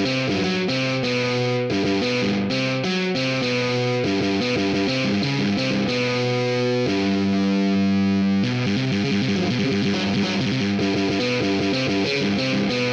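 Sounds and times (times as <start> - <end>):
distorted electric guitar: 0.0 - 12.9.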